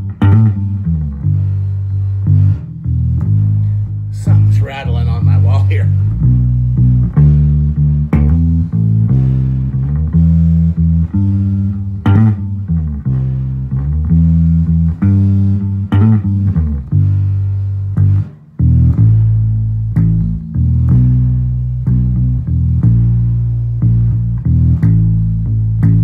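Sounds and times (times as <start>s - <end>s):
electric bass playing blues line: 0.0s - 26.0s.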